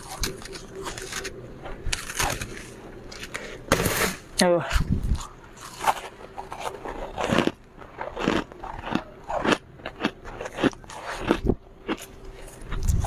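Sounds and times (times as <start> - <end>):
chewing crunchy frost: 0.0 - 4.1, 4.7 - 13.0.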